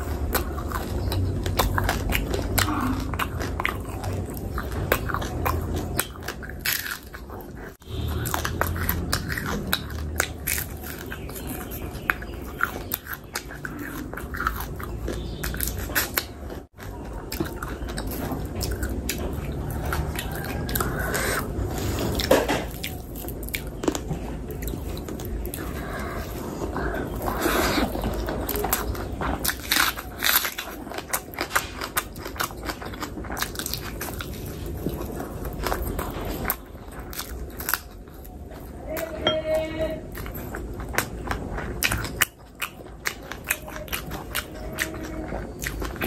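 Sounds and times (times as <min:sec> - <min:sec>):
chewing and biting food: 0:00.0 - 0:46.0.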